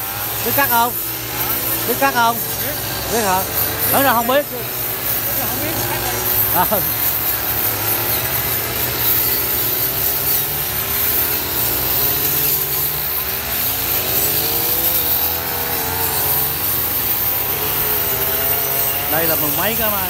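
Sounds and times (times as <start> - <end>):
brush cutters running: 0.0 - 20.0.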